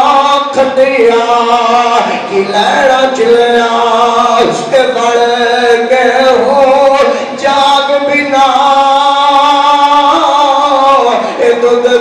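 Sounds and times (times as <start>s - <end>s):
man chanting melodic notes: 0.0s - 12.0s.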